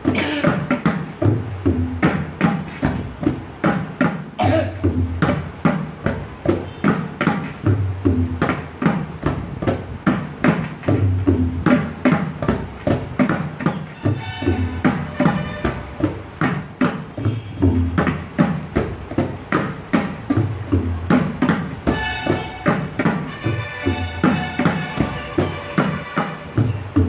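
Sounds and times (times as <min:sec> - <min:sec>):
sharp tabla strokes: 0:00.0 - 0:27.0.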